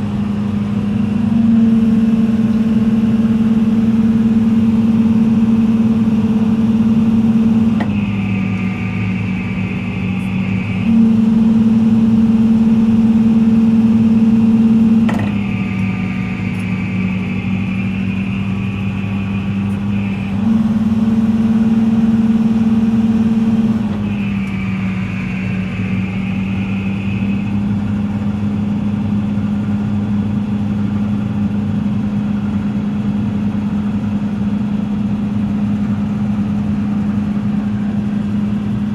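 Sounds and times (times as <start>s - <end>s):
high hydraulic whine: 0.0s - 31.6s
excavator diesel engine running: 0.0s - 38.9s.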